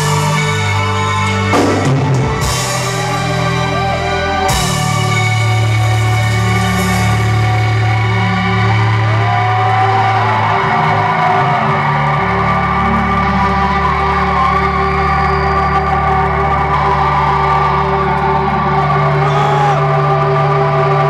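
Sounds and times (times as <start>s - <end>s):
band playing droning music: 0.0s - 21.0s.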